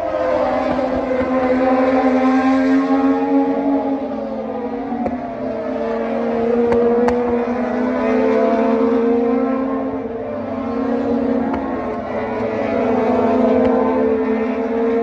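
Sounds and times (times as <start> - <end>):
racing motorcycles at high revs: 0.0 - 15.0.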